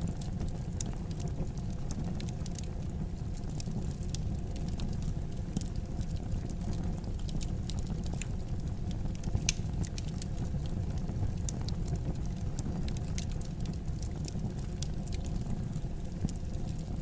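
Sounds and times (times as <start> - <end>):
fire crackling and popping: 0.0 - 17.0
fire rumbling in fireplace: 0.0 - 17.0.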